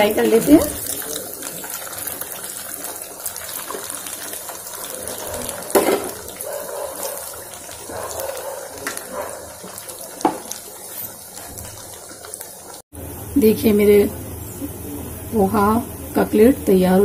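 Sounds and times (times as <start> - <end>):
deep-frying sizzle with crackles: 0.0 - 17.0.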